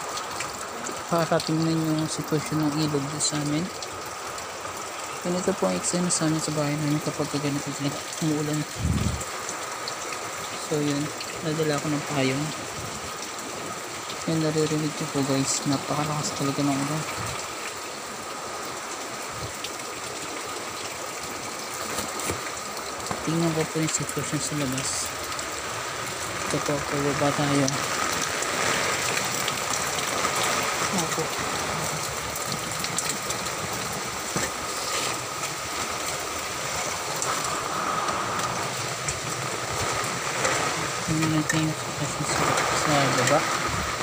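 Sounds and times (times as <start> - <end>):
heavy rain pouring: 0.0 - 44.0.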